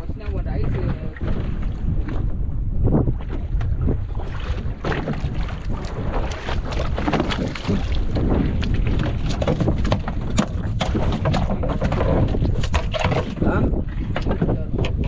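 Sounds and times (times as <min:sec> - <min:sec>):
boat rumble: 0:00.0 - 0:15.0
knocks and slaps against boat: 0:00.0 - 0:15.0
wind buffeting microphone: 0:00.0 - 0:15.0.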